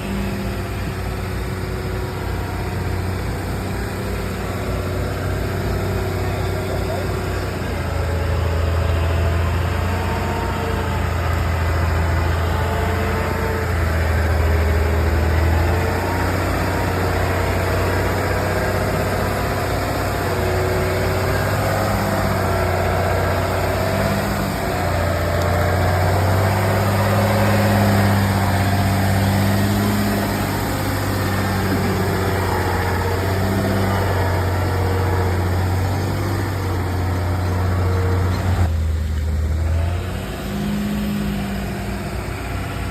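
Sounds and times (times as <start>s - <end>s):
heavy truck engine droning: 0.0s - 42.9s.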